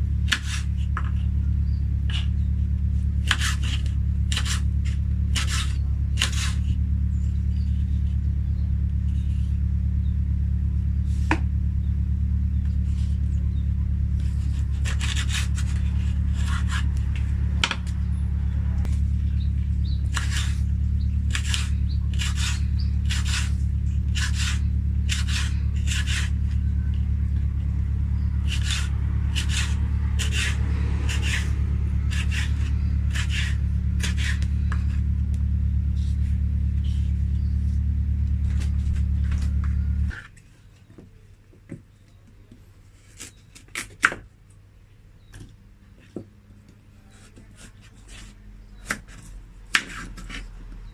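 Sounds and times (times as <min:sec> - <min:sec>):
steady low hum: 0:00.0 - 0:41.2.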